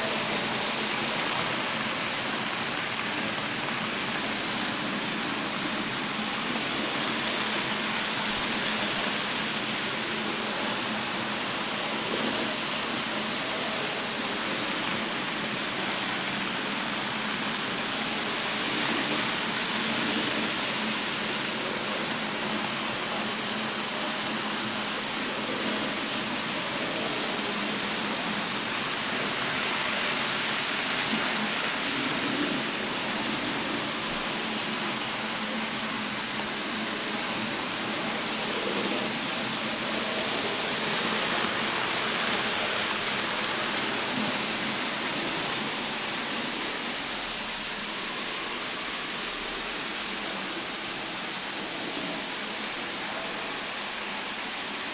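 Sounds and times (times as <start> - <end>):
model trains running on track: 0.0 - 54.9.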